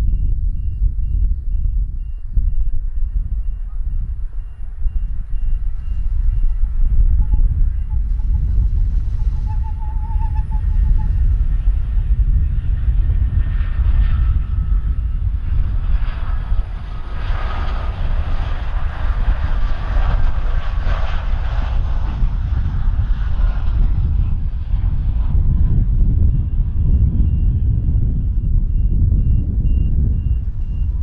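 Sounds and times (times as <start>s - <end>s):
steady low rumble: 0.0s - 31.0s
jet engines roaring: 2.7s - 29.1s.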